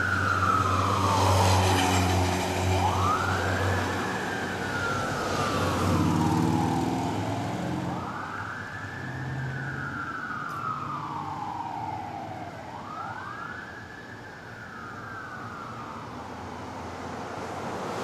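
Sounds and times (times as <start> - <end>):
fire engine siren wailing: 0.0 - 17.0
passing traffic: 0.0 - 18.0.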